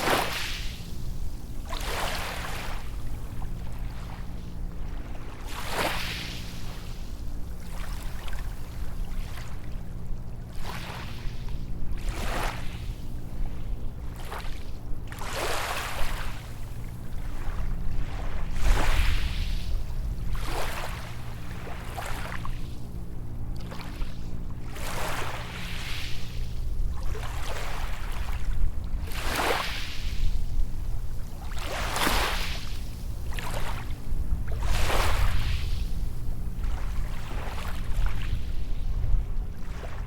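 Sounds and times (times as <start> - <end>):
small waves breaking on a beach: 0.0 - 40.0.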